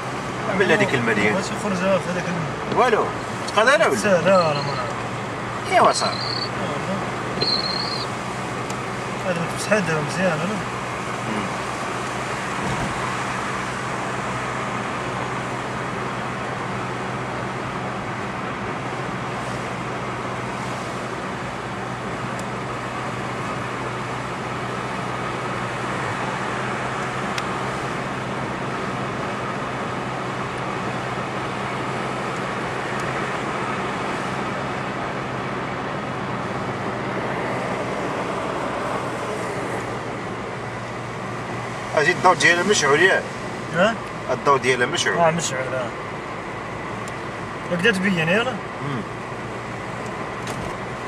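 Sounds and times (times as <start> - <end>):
car engine hum: 0.0 - 51.0
tyre and road noise: 0.0 - 51.0.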